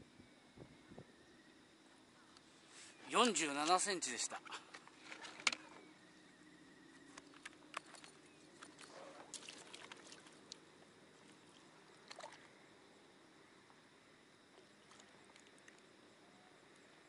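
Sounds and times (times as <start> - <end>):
faint water sounds: 1.7 - 17.0.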